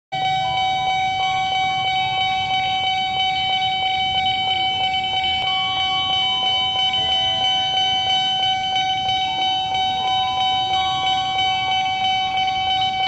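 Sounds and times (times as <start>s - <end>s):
pulsing electronic warning tone: 0.2s - 13.0s.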